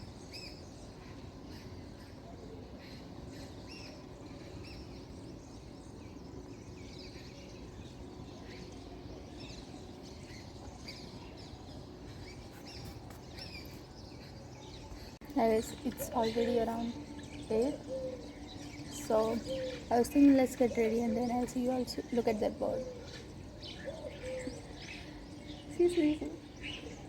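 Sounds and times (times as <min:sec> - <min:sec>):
low outdoor rumble: 0:00.0 - 0:27.0
small birds chirping: 0:00.0 - 0:27.0.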